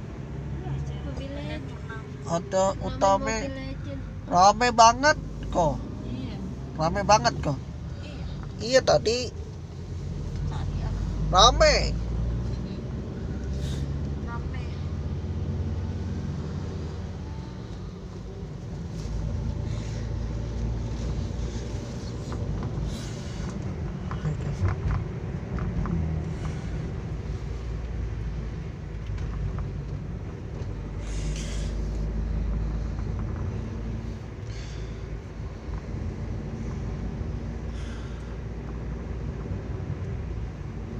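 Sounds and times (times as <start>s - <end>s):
car cabin road rumble: 0.0s - 40.9s.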